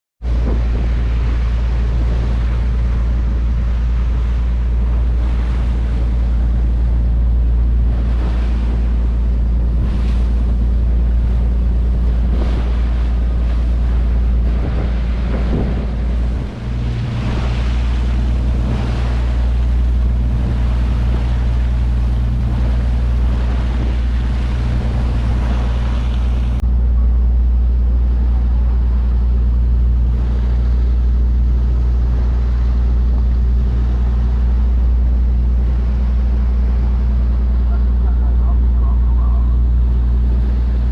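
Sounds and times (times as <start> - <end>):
boat engine humming: 0.2 - 40.9
sea wash: 0.2 - 40.9
wind noise on microphone: 0.2 - 40.9.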